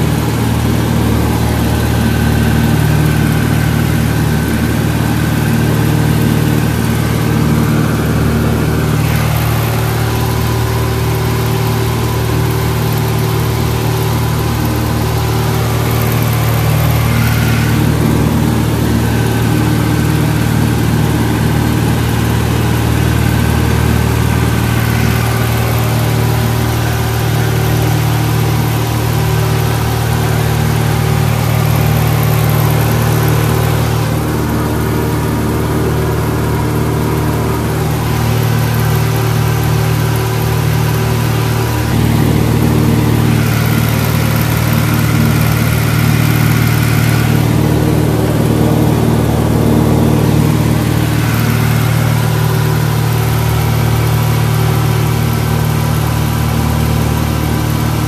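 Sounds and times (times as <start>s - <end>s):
airplane engine and propeller droning: 0.0s - 58.0s.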